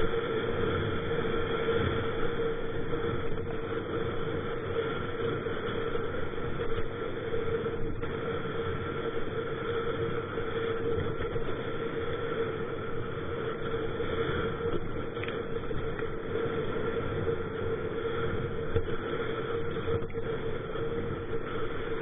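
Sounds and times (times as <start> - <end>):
constant hum: 0.0 - 22.0.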